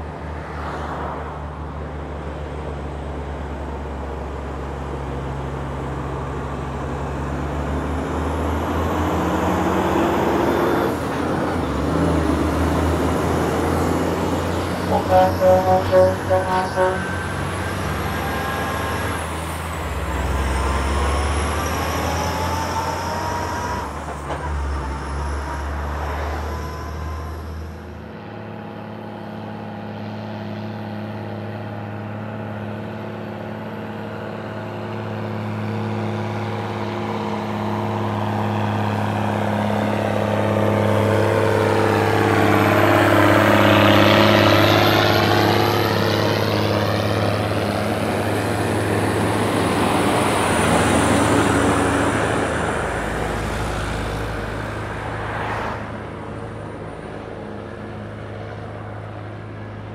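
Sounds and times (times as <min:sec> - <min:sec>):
diesel truck engine under load: 0:02.2 - 0:59.9.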